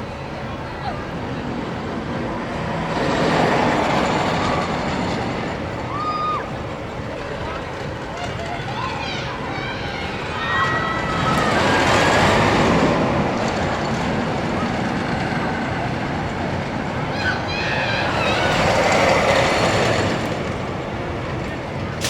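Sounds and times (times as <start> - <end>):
riders' voices: 0.0 - 22.0
roller coaster rushing rumble: 0.0 - 22.0.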